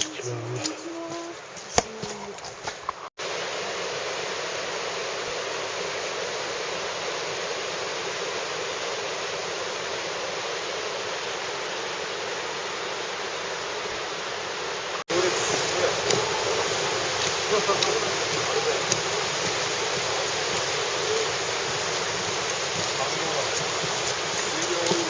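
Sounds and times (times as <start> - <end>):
rushing water roar: 3.1 - 25.0.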